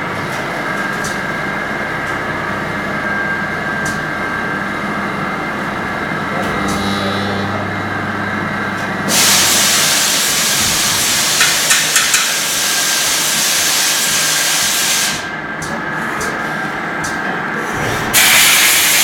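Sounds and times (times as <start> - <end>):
lathe machine hum: 0.0 - 18.2.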